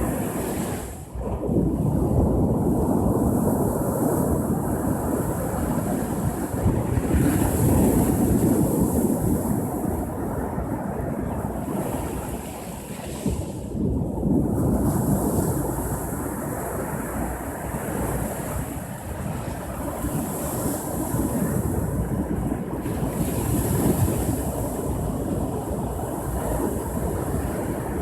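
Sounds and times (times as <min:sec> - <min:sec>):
ocean surf breaking on shore: 0:00.0 - 0:28.0
wind buffeting microphone: 0:00.0 - 0:28.0.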